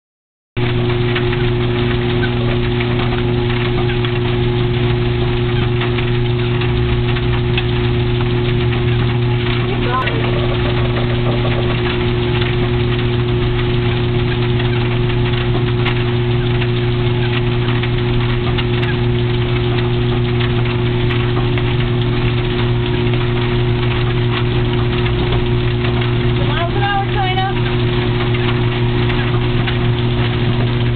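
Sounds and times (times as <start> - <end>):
treadmill motor humming: 0.6 - 30.9
treadmill belt moving: 0.9 - 30.9.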